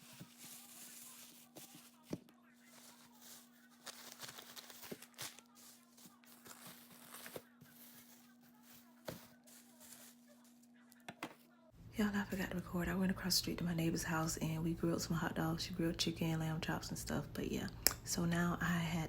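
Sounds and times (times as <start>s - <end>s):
faint steady hum: 2.2s - 19.0s.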